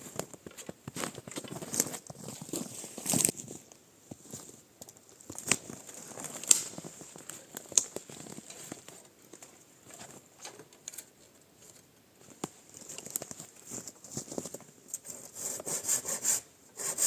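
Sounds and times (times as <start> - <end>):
rustling: 0.0 - 16.4.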